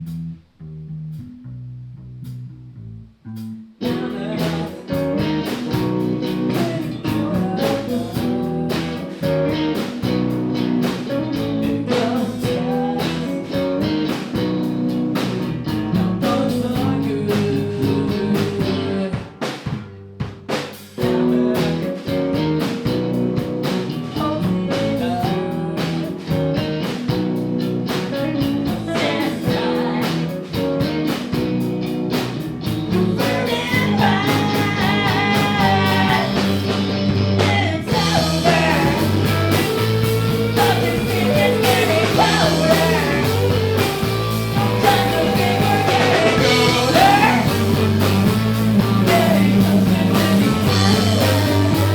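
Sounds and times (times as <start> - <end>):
live band with guitar and drums: 3.4 - 51.9.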